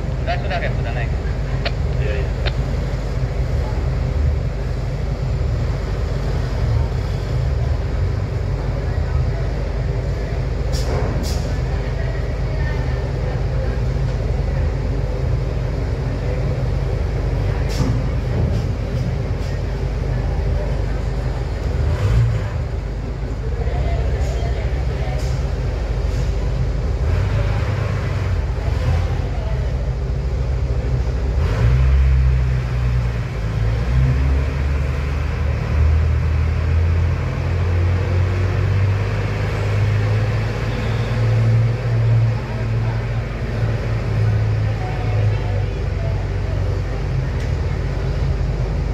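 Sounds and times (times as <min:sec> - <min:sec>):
truck diesel engine rumble: 0:00.0 - 0:48.9.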